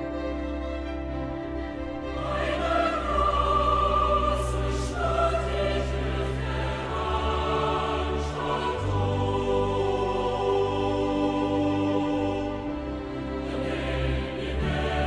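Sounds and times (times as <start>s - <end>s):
low sustained chord: 0.0s - 15.0s
choir singing held notes: 2.0s - 15.0s.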